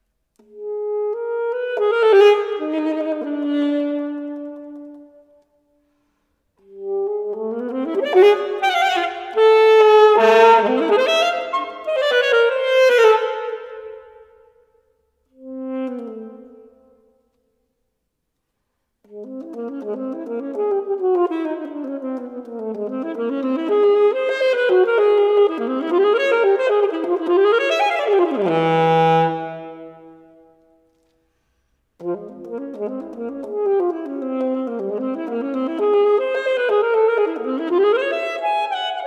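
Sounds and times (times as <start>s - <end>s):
solo alto saxophone: 0.3s - 14.6s, 15.2s - 17.5s, 19.0s - 39.0s.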